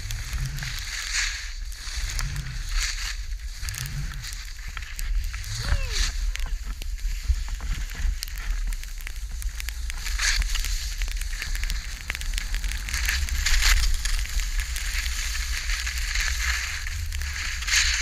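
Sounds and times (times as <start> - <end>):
skis scraping over snow: 0.0 - 18.0
steady low rumble: 0.0 - 18.0.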